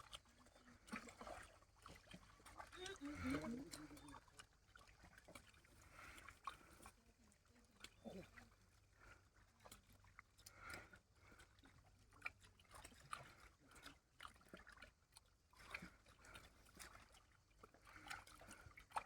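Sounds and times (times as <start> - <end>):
shallow water splashing: 0.0 - 19.0.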